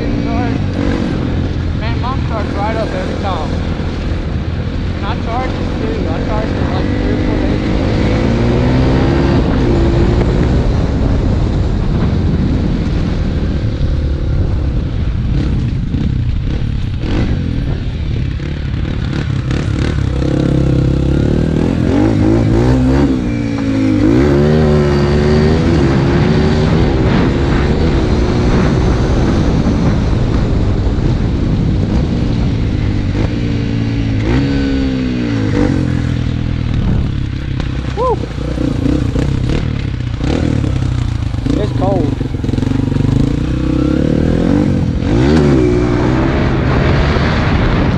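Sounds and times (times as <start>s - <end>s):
dirt bike engine revving: 0.0s - 11.4s, 15.3s - 47.9s.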